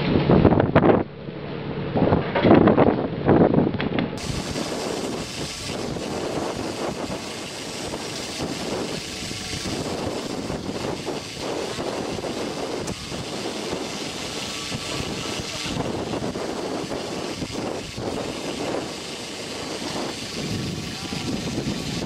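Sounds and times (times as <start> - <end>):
wind noise on microphone: 0.0 - 22.0
boat engine drone: 4.0 - 22.0.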